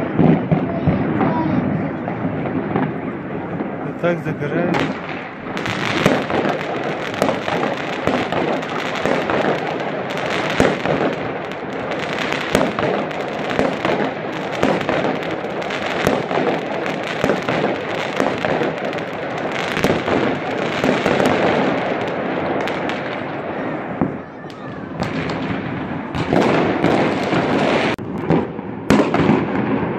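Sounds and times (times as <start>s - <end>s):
fireworks and firecrackers bangs: 0.0s - 29.9s.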